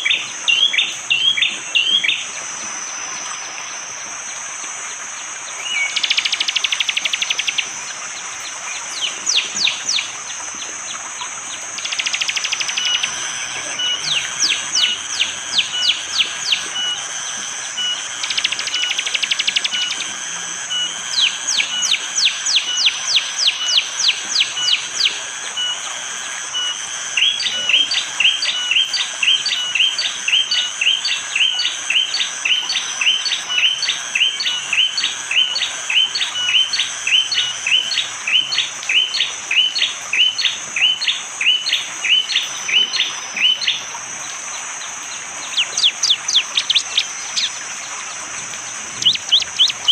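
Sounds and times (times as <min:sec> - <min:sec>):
high insect drone: 0:00.0 - 0:49.9
bird sharp trilling calls: 0:08.5 - 0:49.9.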